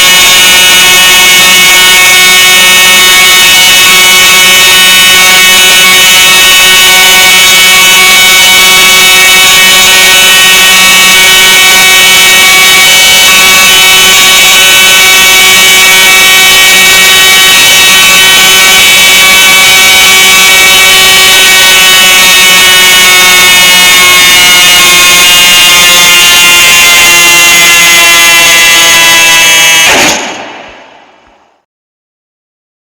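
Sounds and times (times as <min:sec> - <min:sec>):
electronic emergency alert alarm: 0:00.0 - 0:31.6.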